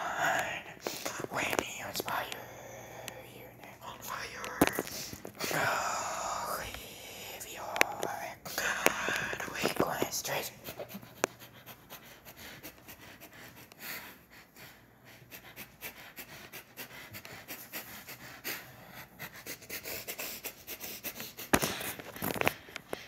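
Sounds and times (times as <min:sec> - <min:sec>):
person breathing close: 0:00.0 - 0:23.0.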